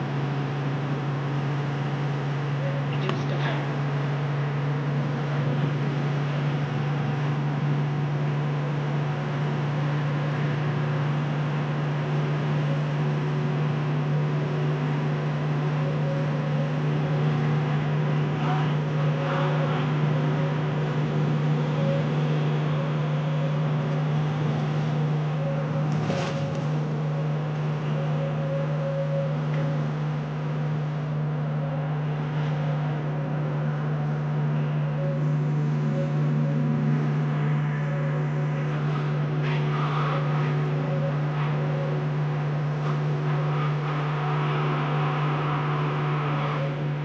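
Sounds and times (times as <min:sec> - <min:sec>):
low engine hum: 0:00.0 - 0:47.0
road and tyre noise: 0:00.0 - 0:47.0.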